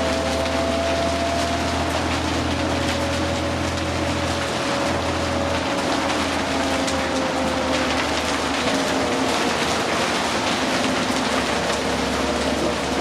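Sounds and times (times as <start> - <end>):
bus drivetrain drone and whine: 0.0 - 13.0
road and rain noise: 0.0 - 13.0.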